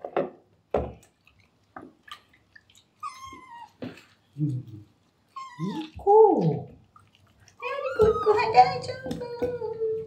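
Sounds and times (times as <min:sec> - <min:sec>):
water splashing and dripping: 0:00.8 - 0:10.0.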